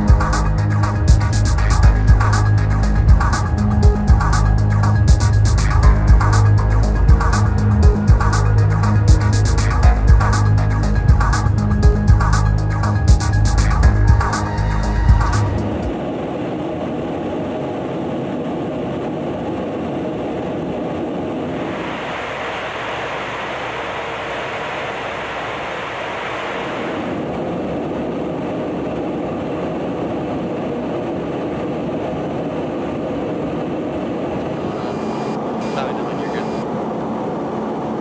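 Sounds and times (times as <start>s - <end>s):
aircraft engine and wind rush: 0.0s - 38.0s.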